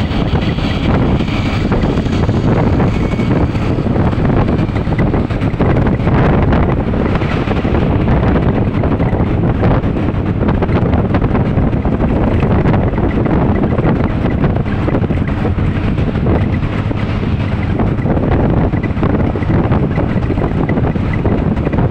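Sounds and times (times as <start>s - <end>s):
low vehicle rumble: 0.0s - 21.9s
road traffic: 0.0s - 21.9s
wind buffeting microphone: 0.0s - 21.9s.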